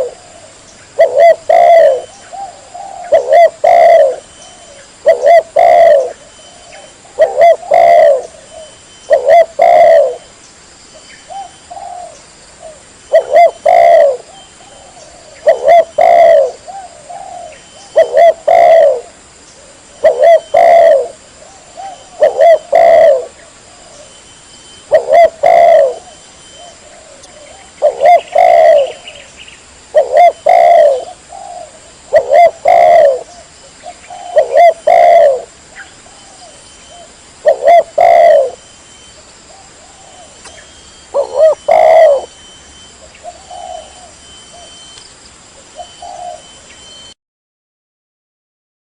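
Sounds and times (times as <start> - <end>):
dove cooing: 0.0 - 10.3, 11.3 - 47.1.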